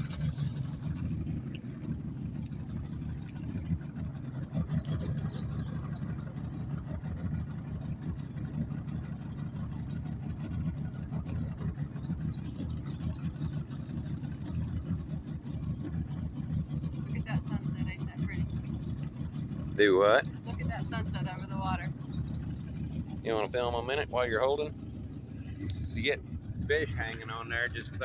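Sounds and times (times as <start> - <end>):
boat motor running: 0.0 - 28.0
water noise: 0.0 - 28.0.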